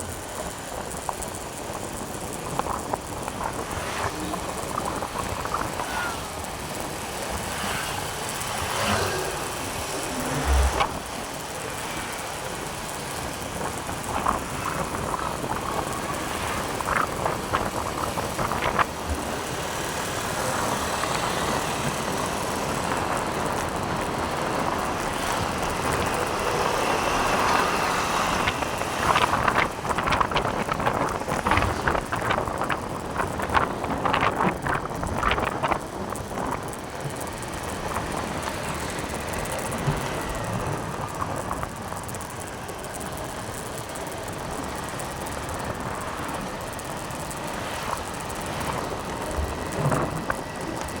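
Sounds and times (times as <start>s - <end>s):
motorcycle road and wind noise: 0.0s - 51.0s
wind on microphone: 0.0s - 51.0s.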